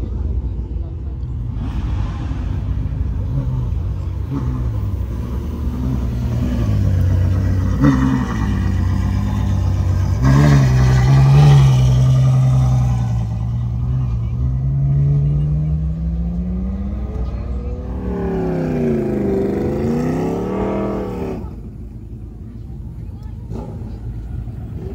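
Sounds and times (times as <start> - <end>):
car engine revving: 1.0 - 24.9.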